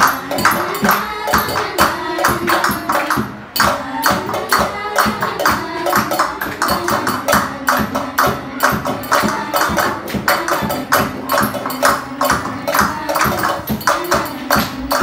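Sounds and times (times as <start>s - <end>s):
homemade percussion beat: 0.0s - 15.0s
voices holding sung notes: 0.0s - 15.0s.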